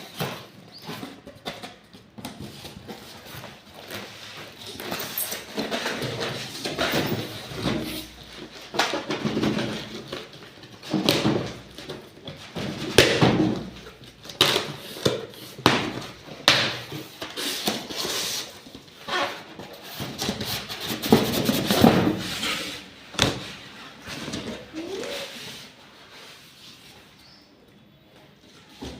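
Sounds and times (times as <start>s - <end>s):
objects knocking and clunking: 0.0s - 25.2s.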